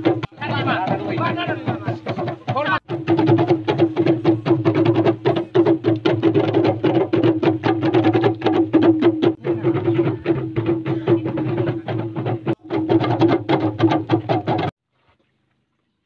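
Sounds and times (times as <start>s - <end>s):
quick even drumbeats: 0.0s - 14.7s.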